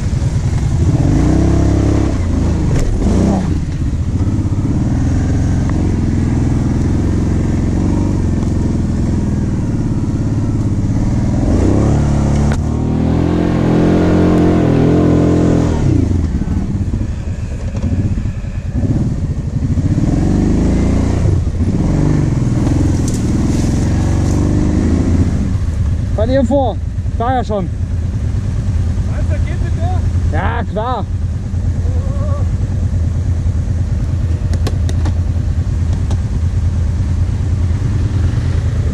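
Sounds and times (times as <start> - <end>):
quad engine running and revving: 0.0 - 38.9.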